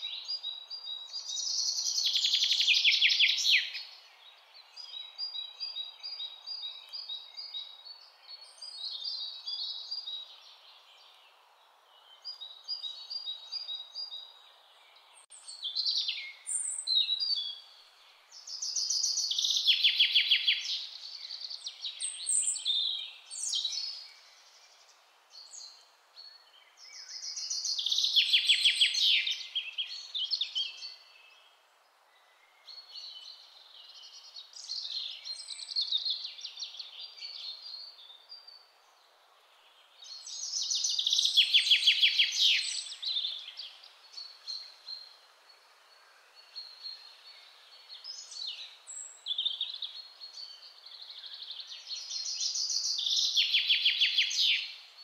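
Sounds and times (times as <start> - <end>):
faint outdoor hiss: 0.0 - 55.0.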